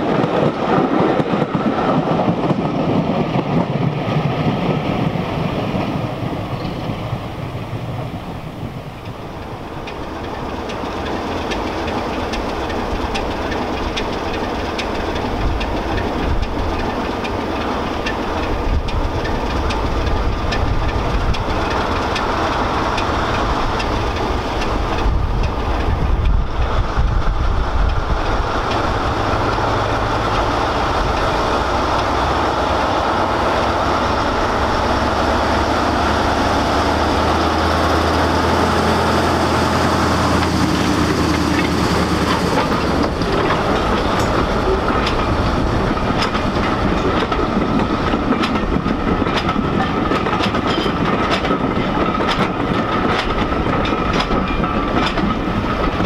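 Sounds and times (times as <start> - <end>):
diesel locomotive engine hauling coaches: 0.0 - 56.0.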